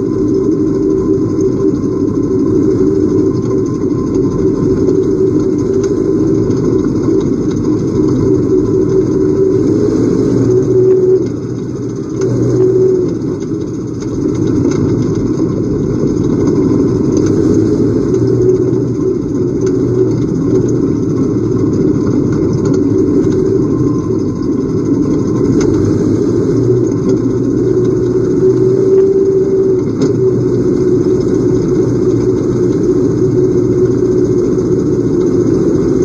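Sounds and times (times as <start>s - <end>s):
race car engines droning: 0.0s - 36.0s.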